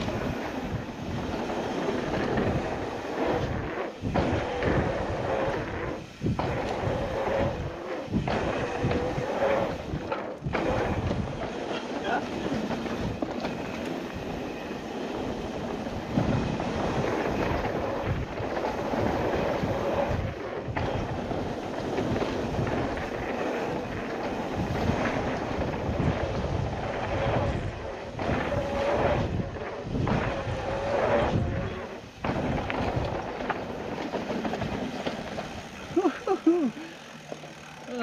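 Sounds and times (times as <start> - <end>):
wind buffeting microphone: 0.0 - 37.6
bike tyre roar and rattle: 0.0 - 38.0.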